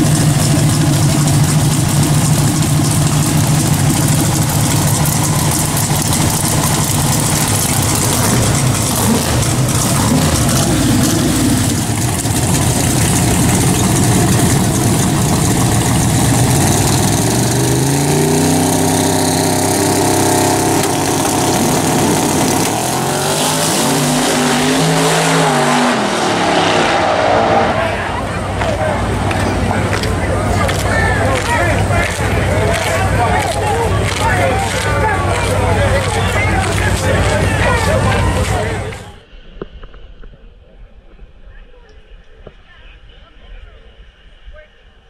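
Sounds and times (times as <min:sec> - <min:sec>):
drag car engine revving: 0:00.0 - 0:39.2.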